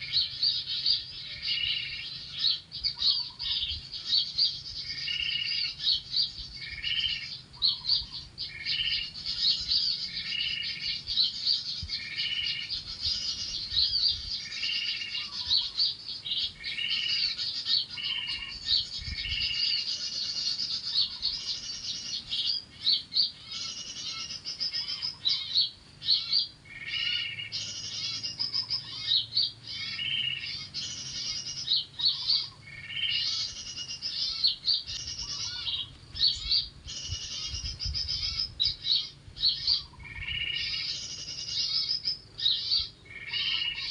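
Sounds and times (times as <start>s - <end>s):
small birds chattering: 0.0s - 43.9s.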